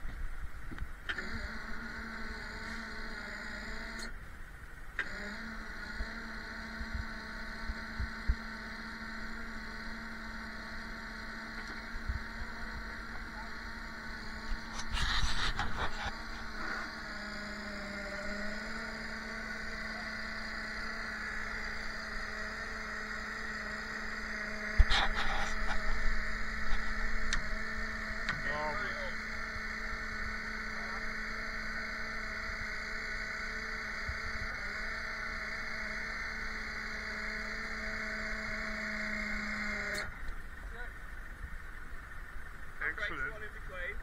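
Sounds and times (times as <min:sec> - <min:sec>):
vehicle engine idling: 0:00.0 - 0:44.0.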